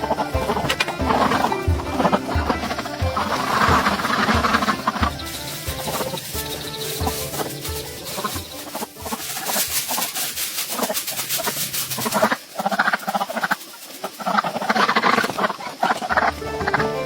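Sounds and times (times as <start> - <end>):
farm animals calling: 0.0 - 17.0
rapid clicking and rustling: 0.0 - 17.0.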